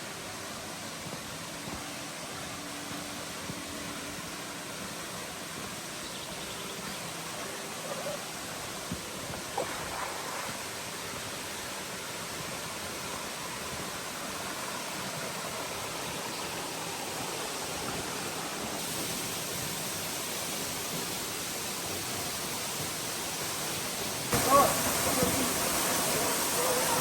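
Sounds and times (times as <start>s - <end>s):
water flowing over rocks: 0.0s - 27.0s.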